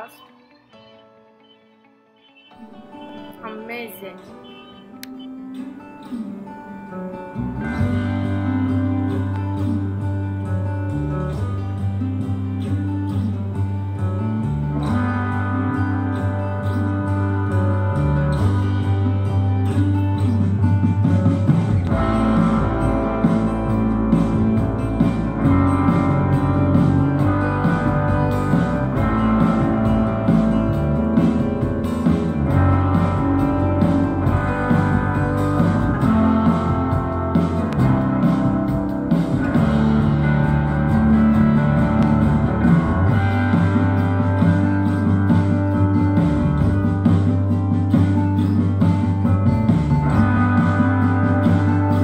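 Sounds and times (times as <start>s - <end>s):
instrumental guitar music: 0.0s - 52.0s
bass line: 7.3s - 52.0s.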